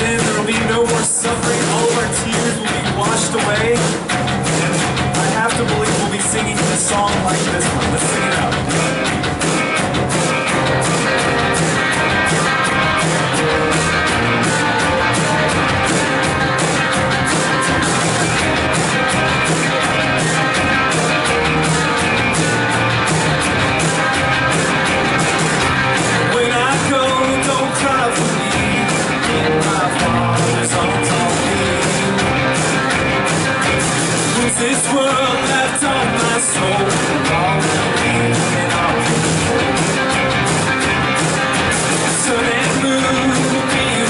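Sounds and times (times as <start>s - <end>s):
band playing rock song: 0.0s - 44.0s
drum beat: 0.0s - 44.0s.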